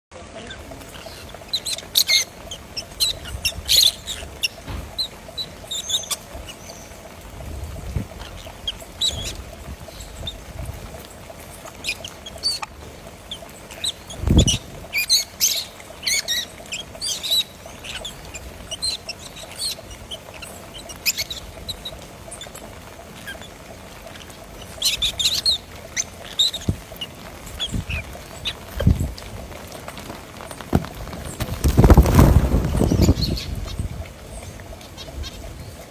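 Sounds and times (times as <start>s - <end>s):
birds chirping: 0.2s - 35.9s.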